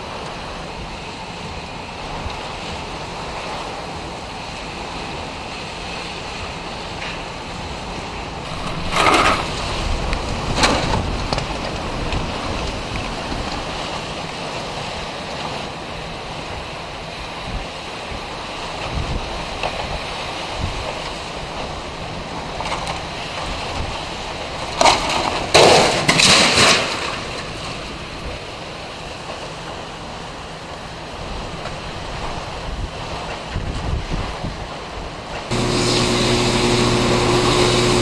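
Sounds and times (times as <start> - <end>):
strong wind and rain rushing: 0.0 - 38.0
wind buffeting microphone: 0.0 - 38.0.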